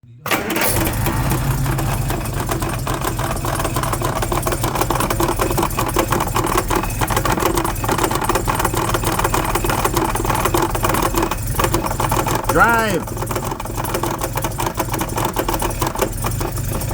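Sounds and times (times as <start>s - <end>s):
car engine idling: 0.3s - 16.9s
fast rattling clatter: 0.4s - 16.9s.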